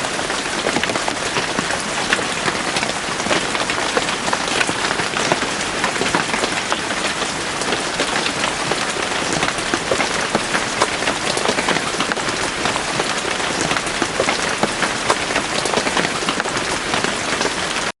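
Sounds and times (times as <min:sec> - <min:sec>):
rain pattering on leaves: 0:00.0 - 0:17.9.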